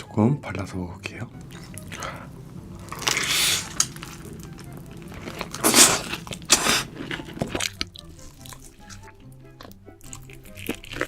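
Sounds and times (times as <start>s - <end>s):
crunchy food chewing: 1.4s - 11.0s.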